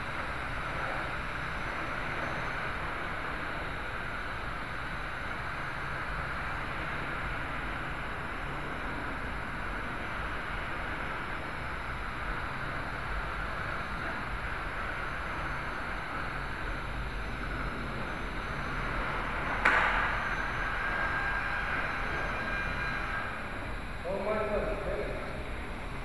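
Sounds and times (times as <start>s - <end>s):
quadcopter motors and propellers: 0.0s - 26.0s.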